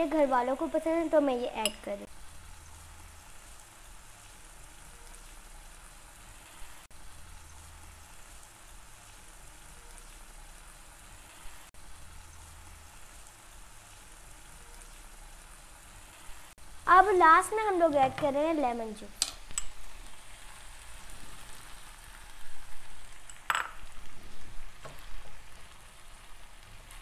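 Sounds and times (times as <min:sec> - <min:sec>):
filling sizzling in a frying pan: 0:00.0 - 0:27.0.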